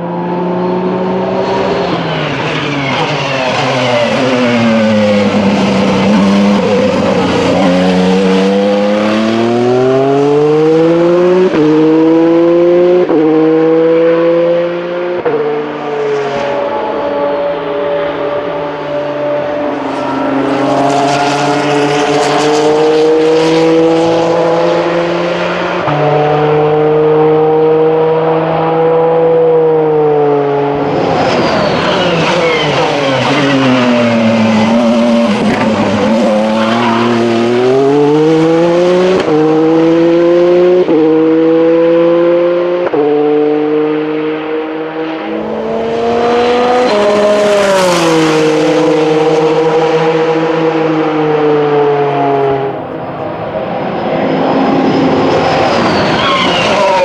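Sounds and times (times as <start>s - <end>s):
race car engines at speed: 0.0s - 57.0s
race car passing close: 0.0s - 57.0s.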